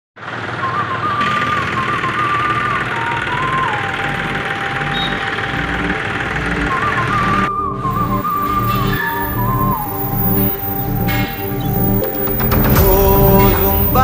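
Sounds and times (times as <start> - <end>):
tractor engine running: 0.2 - 14.0
wavering whistle-like tone: 0.6 - 14.0.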